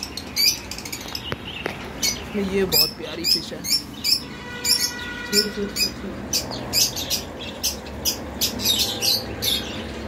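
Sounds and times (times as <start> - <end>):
caged birds chirping: 0.0 - 10.0.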